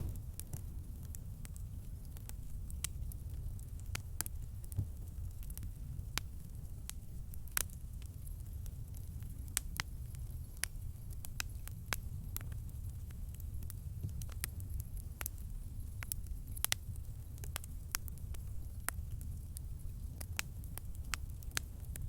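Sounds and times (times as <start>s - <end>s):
campfire rumble: 0.0s - 22.0s
fire crackling and popping: 0.0s - 22.0s.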